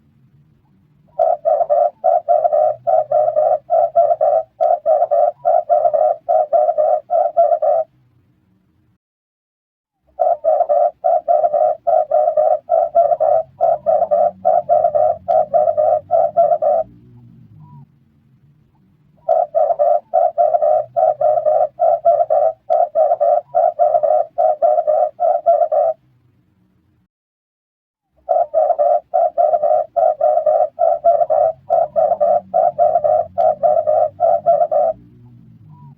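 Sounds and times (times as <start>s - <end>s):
dove cooing: 1.1s - 7.9s, 10.1s - 17.9s, 19.2s - 26.0s, 28.2s - 35.9s.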